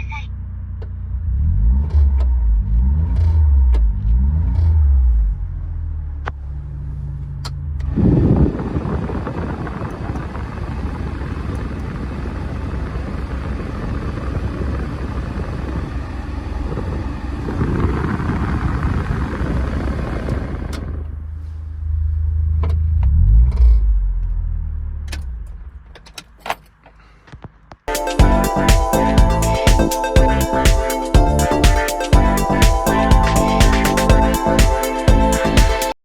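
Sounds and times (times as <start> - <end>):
car engine humming: 0.0 - 26.2, 27.9 - 36.0.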